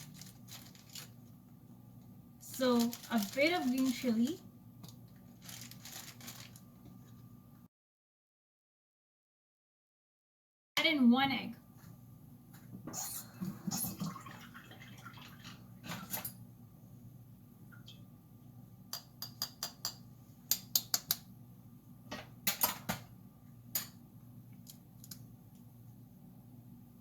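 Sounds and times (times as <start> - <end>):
low background hum: 0.0 - 7.7, 10.8 - 27.0.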